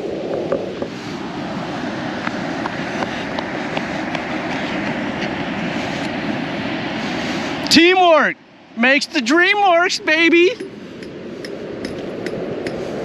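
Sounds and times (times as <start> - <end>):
wind buffeting microphone: 0.0 - 7.8, 9.1 - 13.0
ocean surf: 0.0 - 13.0.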